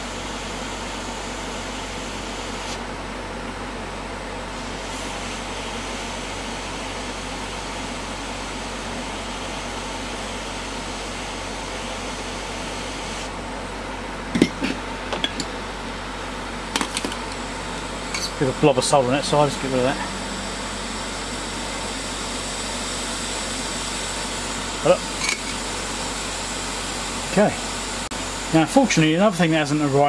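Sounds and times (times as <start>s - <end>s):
fan-like equipment whir: 0.0s - 30.0s.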